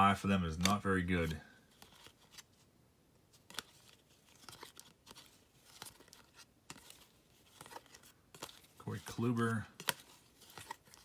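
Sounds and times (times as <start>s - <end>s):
cards sliding and ticking: 0.1s - 11.0s.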